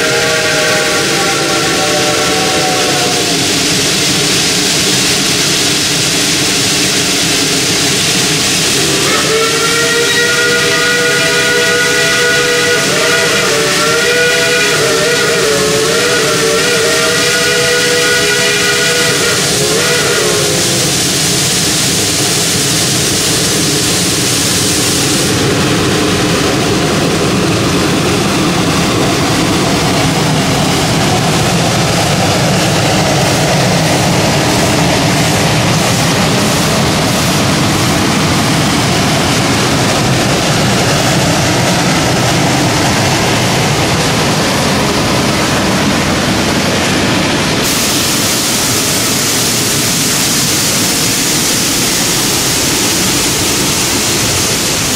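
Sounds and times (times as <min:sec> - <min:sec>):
steam locomotive exhaust: 0:00.0 - 0:54.9
train cars rolling on rails: 0:00.0 - 0:54.9.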